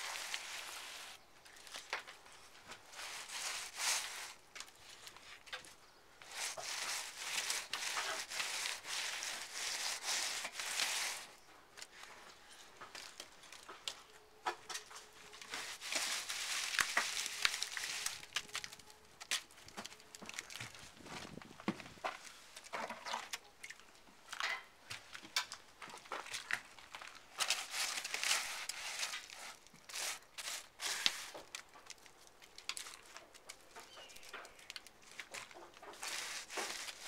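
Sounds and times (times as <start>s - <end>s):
straw crackling and scraping: 0.0s - 37.0s.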